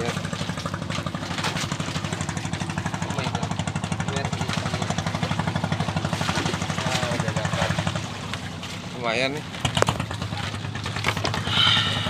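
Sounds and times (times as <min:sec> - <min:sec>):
engine running at low speed: 0:00.0 - 0:12.0.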